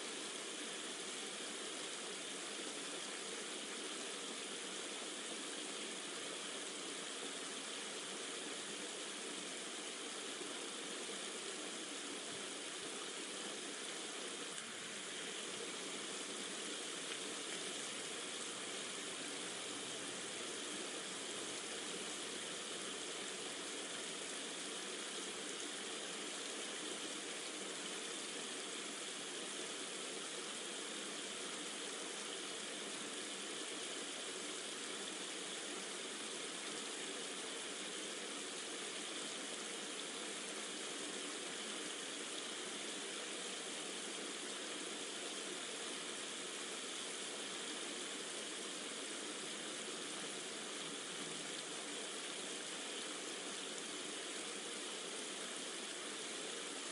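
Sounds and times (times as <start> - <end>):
rushing water: 0.0 - 56.9.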